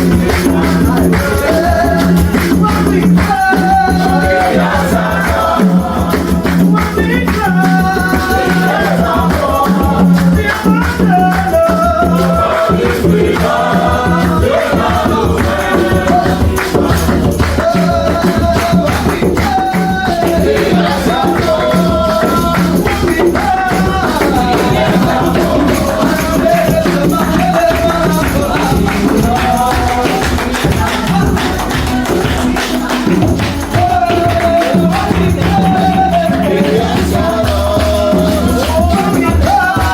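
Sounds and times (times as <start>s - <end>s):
gospel worship music: 0.0s - 39.9s
jingling tambourine: 0.0s - 39.9s.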